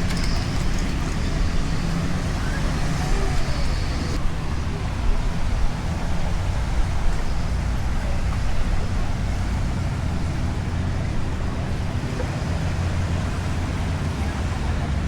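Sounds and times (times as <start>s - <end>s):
low engine rumble: 0.0s - 15.0s
road traffic noise: 0.0s - 15.0s.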